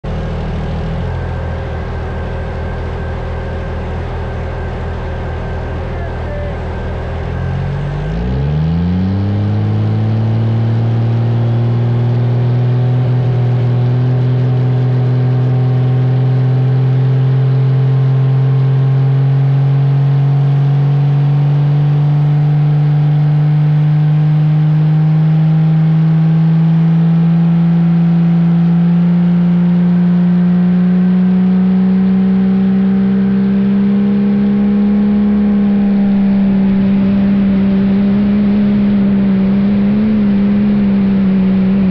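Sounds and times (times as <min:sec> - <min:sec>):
diesel engine at full throttle: 0:00.0 - 0:41.9.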